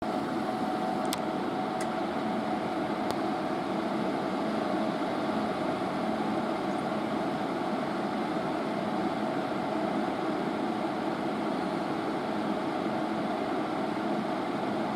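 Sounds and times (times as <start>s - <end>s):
fan unit whirring hum: 0.0s - 14.9s.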